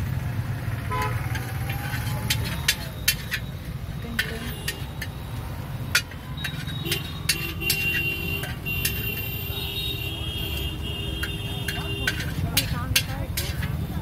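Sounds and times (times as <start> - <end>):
metal utensils clinking on iron pan: 1.1 - 14.0.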